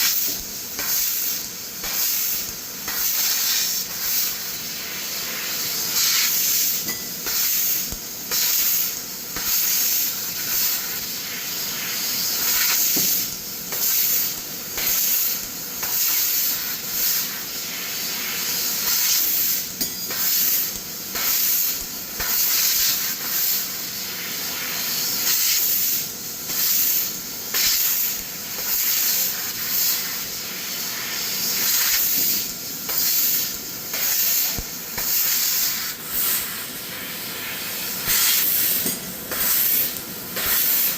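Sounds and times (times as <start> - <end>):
laser cutter gas hiss: 0.0 - 40.9.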